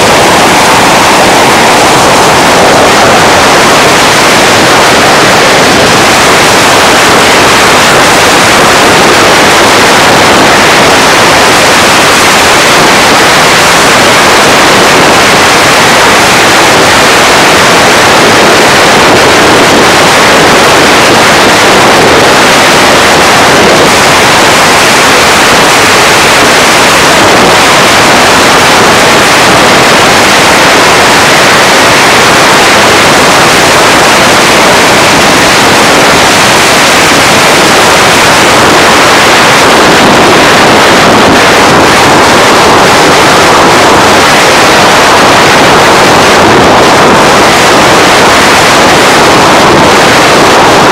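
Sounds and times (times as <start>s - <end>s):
wind and tyre noise: 0.0s - 50.9s.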